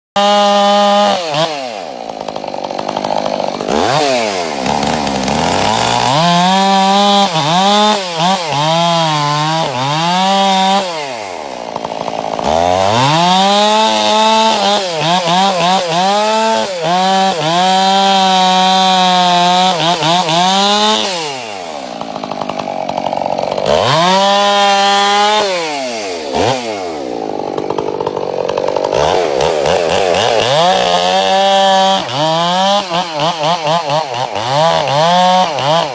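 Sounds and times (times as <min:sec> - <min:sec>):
chainsaw cutting wood: 0:00.2 - 0:35.9.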